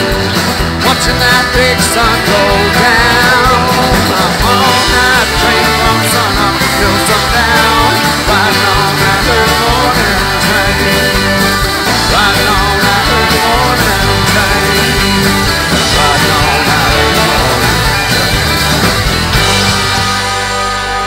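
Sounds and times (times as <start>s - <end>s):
country rock band playing: 0.0s - 21.0s.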